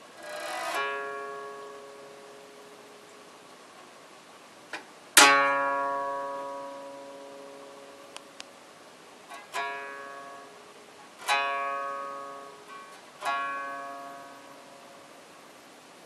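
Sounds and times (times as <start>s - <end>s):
koto strings plucked: 0.0s - 3.3s, 4.7s - 8.6s, 9.3s - 15.4s.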